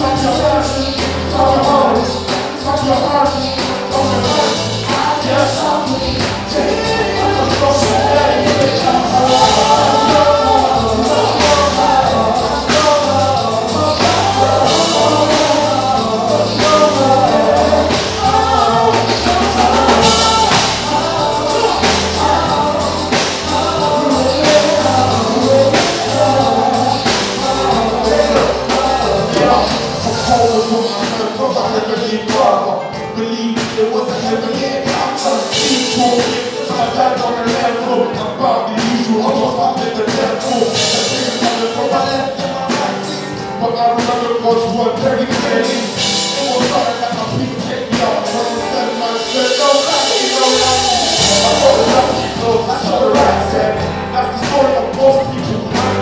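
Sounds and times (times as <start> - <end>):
band playing: 0.0 - 56.0
gospel singing voices: 0.0 - 56.0
steady drum beat: 0.0 - 56.0.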